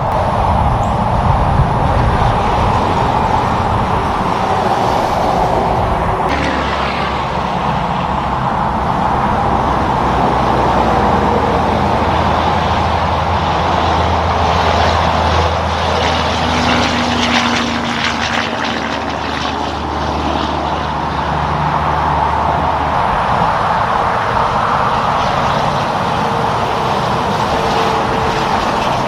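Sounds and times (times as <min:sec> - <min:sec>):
diesel truck engine hum: 0:00.0 - 0:29.0
road and traffic noise: 0:00.0 - 0:29.0.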